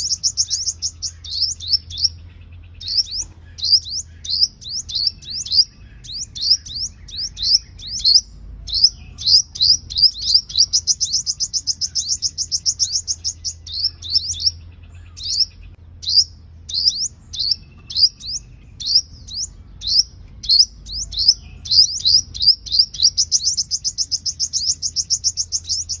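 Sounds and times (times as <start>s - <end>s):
bird chirping and trilling: 0.0s - 26.0s
faint low hum: 0.0s - 26.0s.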